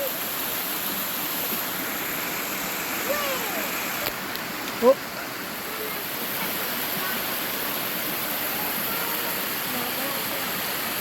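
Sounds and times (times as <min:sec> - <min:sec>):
stream and waterfall over rocks: 0:00.0 - 0:11.0.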